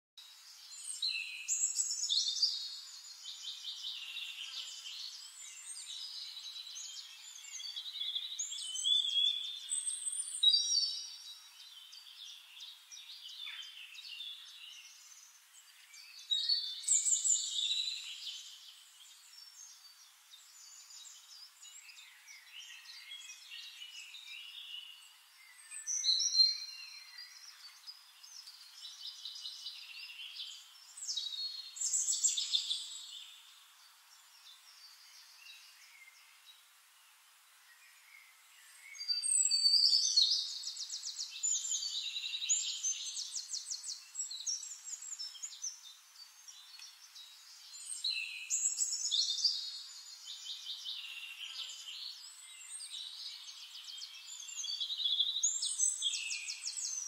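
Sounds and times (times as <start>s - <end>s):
birds singing: 0.2s - 57.0s.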